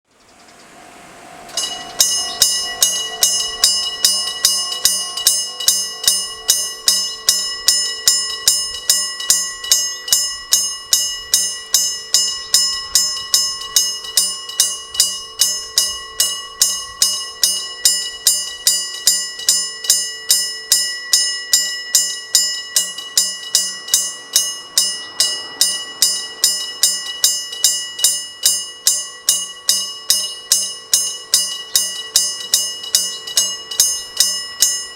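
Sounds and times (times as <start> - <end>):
electric bell gong ringing: 0.3 - 34.9.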